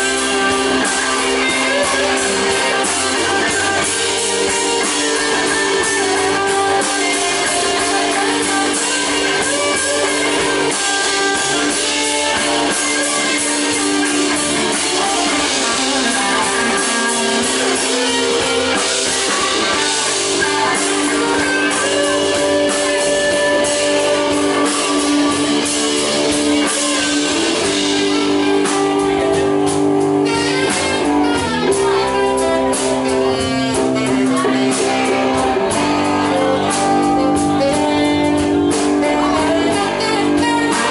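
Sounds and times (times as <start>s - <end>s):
electric guitar: 0.0s - 40.9s
live band playing slow blues: 0.0s - 40.9s.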